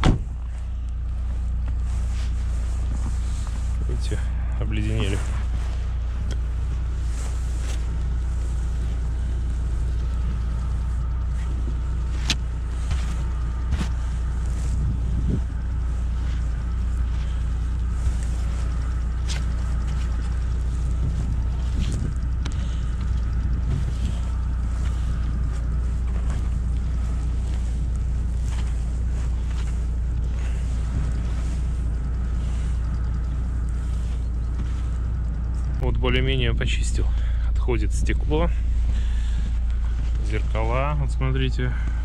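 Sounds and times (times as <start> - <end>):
car engine idling: 0.0 - 42.0
brush sweeping snow off car: 0.6 - 35.6.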